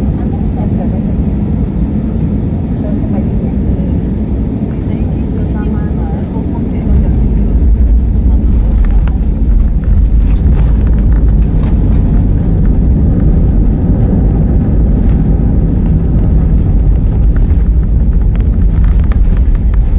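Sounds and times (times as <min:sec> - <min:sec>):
airliner engines roaring: 0:00.0 - 0:19.9.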